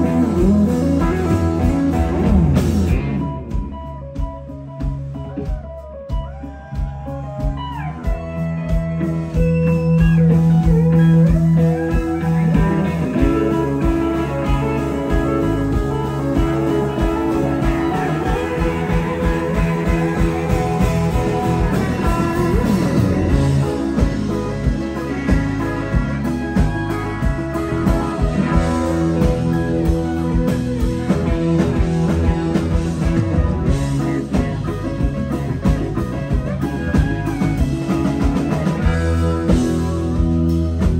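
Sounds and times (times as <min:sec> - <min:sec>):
country band playing live: 0:00.0 - 0:40.9
pedal steel guitar: 0:00.0 - 0:40.9.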